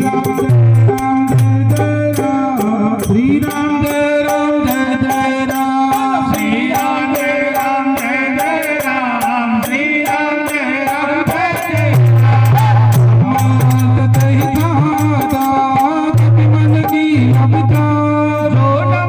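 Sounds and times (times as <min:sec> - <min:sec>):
sharp percussion strikes: 0:00.0 - 0:19.0.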